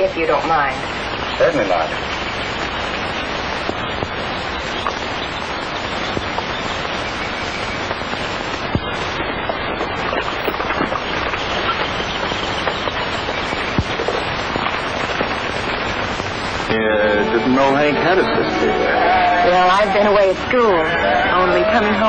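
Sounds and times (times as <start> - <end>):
film soundtrack hiss and crackle: 0.0 - 22.0.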